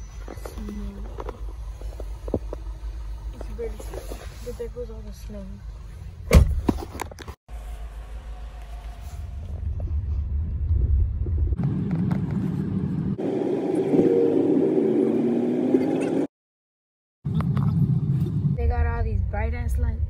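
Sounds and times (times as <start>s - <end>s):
engine and road rumble: 0.0s - 16.3s, 17.2s - 20.0s.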